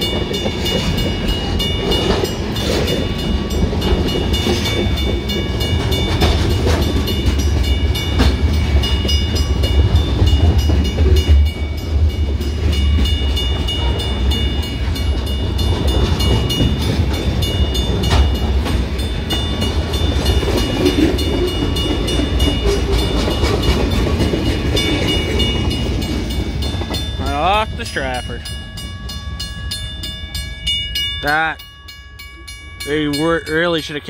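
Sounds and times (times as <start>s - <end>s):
steel wheels rumbling on rails: 0.0s - 34.0s.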